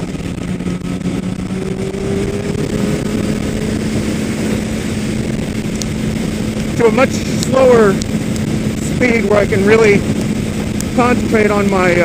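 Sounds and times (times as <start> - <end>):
motorcycle engine cruising: 0.0 - 12.0
road noise: 0.0 - 12.0
wind noise: 0.0 - 12.0.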